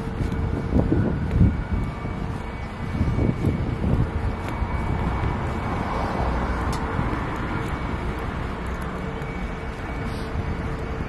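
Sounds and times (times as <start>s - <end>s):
jet aircraft engines running: 0.0s - 11.0s
road traffic: 0.0s - 11.0s.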